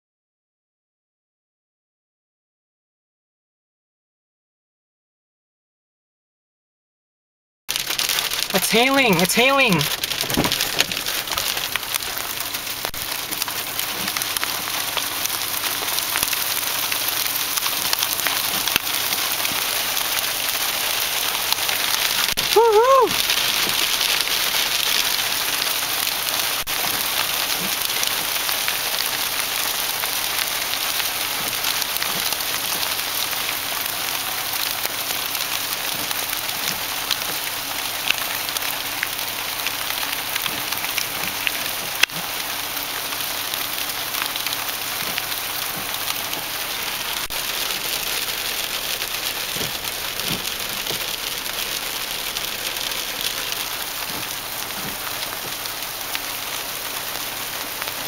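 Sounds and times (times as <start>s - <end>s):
hail pelting pavement and car: 7.7s - 58.0s.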